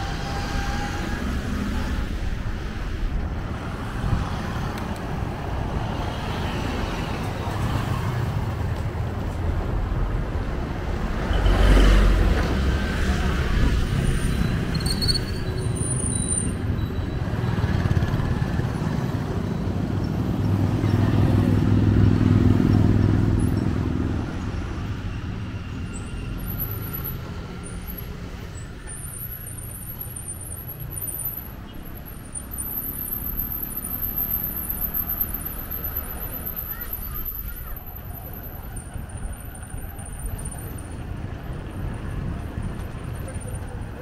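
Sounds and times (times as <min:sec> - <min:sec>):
street traffic: 0:00.0 - 0:44.0.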